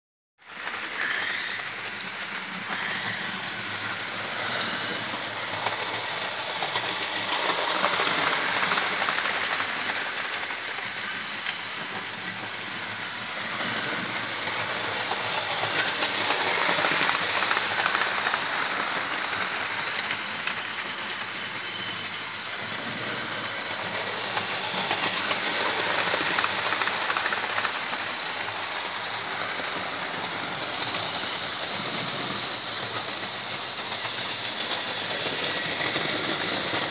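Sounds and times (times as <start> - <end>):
model trains rattling on track: 0.5 - 36.9.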